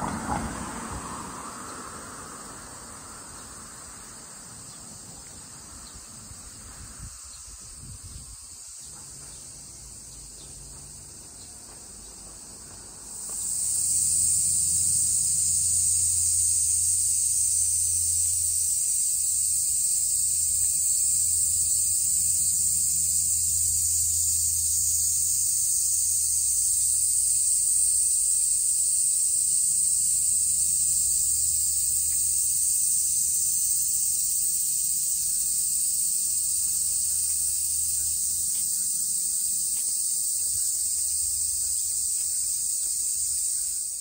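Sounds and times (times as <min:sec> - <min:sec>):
cicadas buzzing: 0:00.0 - 0:44.0.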